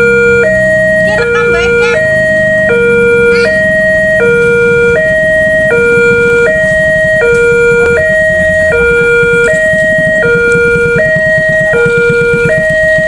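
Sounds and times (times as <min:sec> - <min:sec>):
two-tone crossing siren: 0:00.0 - 0:13.0.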